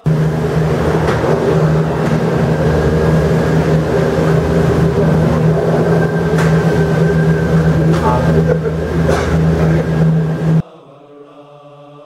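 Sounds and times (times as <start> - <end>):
faint high whine: 0.0 - 10.6
gondola lift machinery humming: 0.0 - 10.6.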